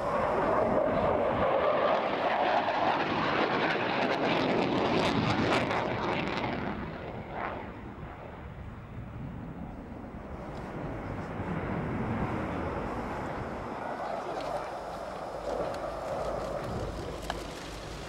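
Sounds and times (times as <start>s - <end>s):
jet engines roaring past: 0.0s - 18.0s.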